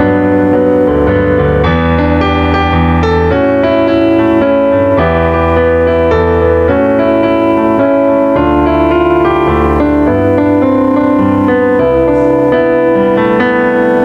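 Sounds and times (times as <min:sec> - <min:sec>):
slow gentle piano piece: 0:00.0 - 0:14.0.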